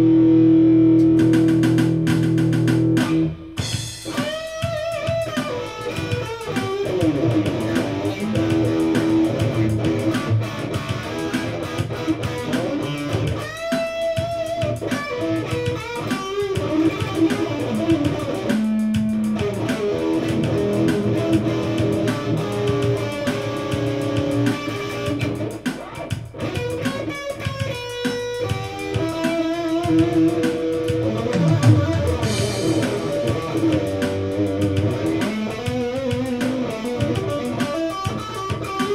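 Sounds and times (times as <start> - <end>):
electric guitar solo: 0.0 - 38.9.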